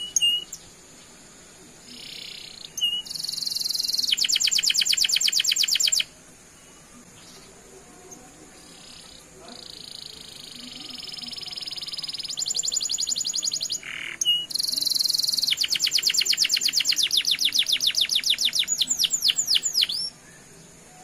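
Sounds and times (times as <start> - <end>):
canary singing trills: 0.0 - 0.8, 1.9 - 21.0.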